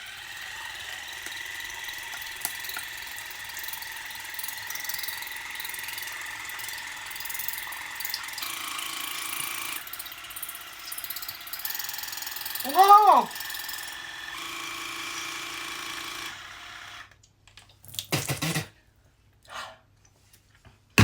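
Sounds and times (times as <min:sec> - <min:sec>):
water flosser pump whirring: 0:00.0 - 0:17.2.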